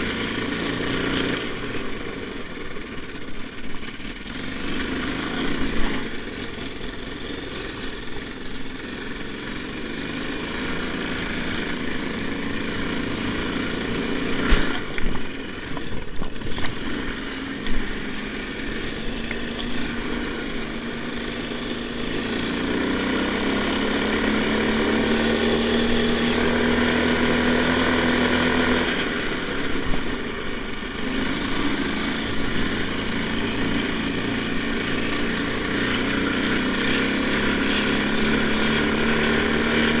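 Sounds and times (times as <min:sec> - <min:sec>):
snow bike engine running: 0:00.0 - 0:40.0.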